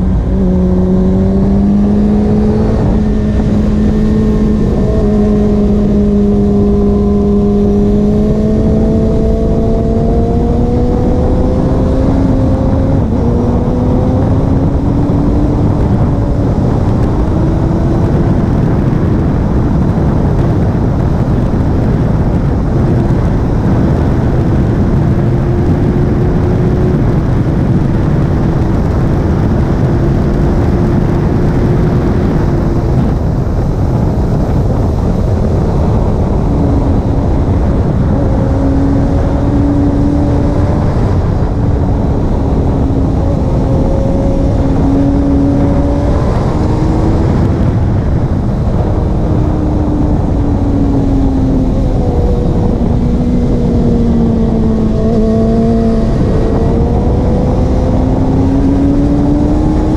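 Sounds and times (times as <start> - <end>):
heavy wind rush: 0.0 - 59.9
racing motorcycle engine: 0.0 - 59.9.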